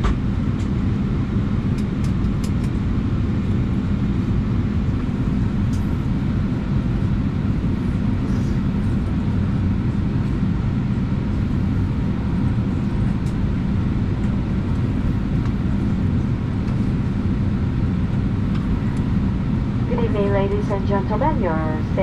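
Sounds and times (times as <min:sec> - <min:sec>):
aircraft cabin rumble: 0:00.0 - 0:22.0
faint hum: 0:00.4 - 0:22.0.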